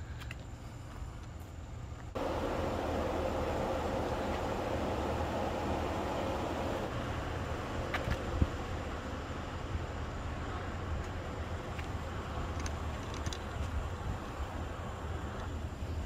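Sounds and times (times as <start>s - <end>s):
idling vehicles rumble: 2.1s - 16.0s.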